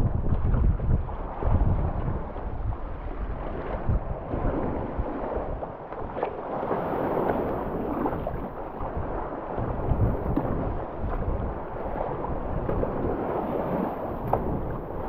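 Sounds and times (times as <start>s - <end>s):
wind rumbling on microphone: 0.0s - 15.0s
paddle splashing water: 0.2s - 15.0s.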